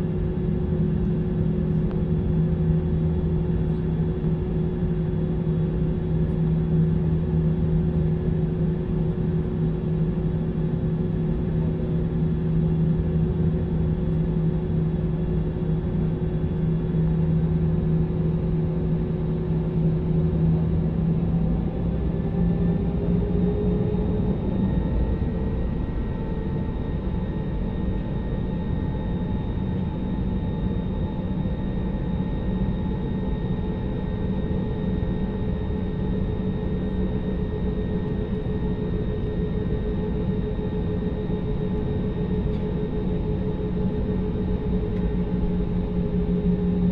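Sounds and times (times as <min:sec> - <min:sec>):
constant low hum: 0:00.0 - 0:46.9
jet engine rumble: 0:00.0 - 0:46.9.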